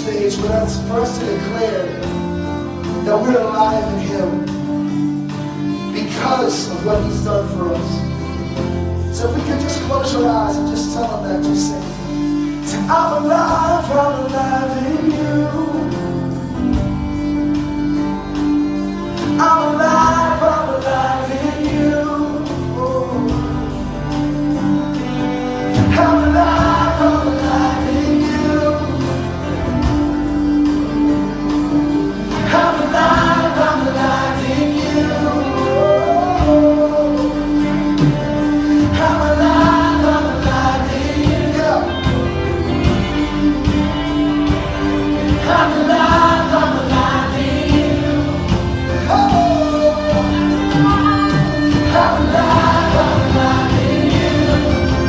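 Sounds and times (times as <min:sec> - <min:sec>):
band with voices singing: 0:00.0 - 0:55.0.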